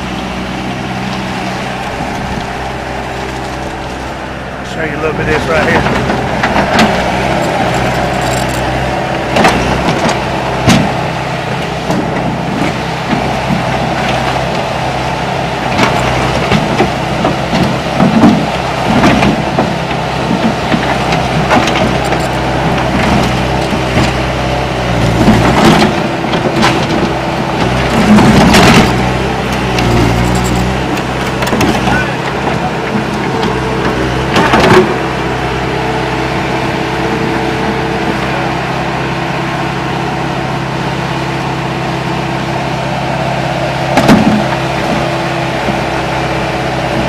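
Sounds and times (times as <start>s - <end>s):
diesel engine under load: 0.0s - 47.0s.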